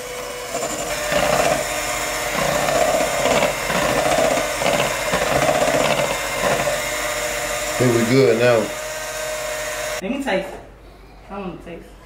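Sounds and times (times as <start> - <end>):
electric hand mixer whisking batter: 0.0 - 10.0.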